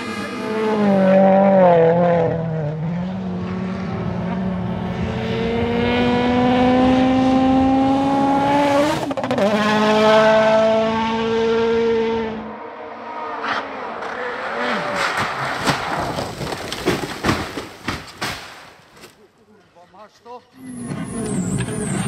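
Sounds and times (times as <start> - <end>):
rally car engine at high revs: 0.0 - 16.5, 20.6 - 22.0.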